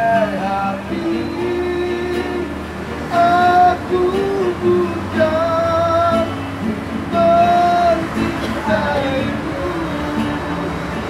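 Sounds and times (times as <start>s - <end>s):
acoustic guitar: 0.0s - 11.0s
person singing slow song: 0.0s - 11.0s.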